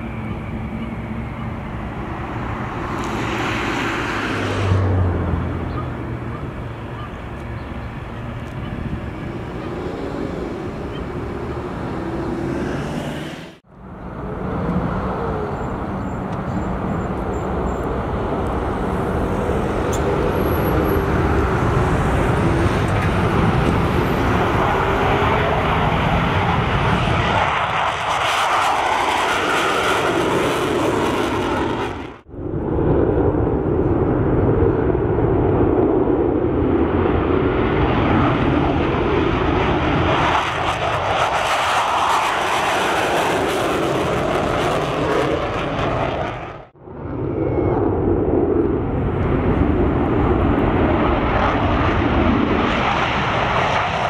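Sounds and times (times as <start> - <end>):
fighter jet roar: 0.0 - 54.0.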